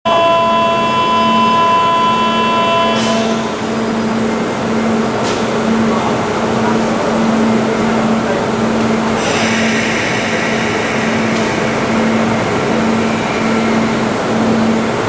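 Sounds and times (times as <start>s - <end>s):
train rushing with low hum: 0.1s - 15.0s.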